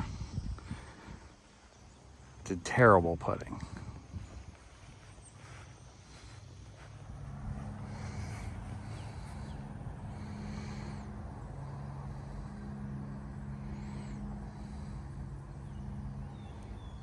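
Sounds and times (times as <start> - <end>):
golf cart driving: 0.0 - 17.0.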